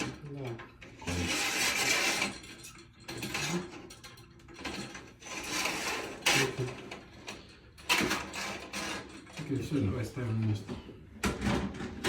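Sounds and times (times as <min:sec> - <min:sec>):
roller shutter rattling and clicking: 0:00.0 - 0:10.4.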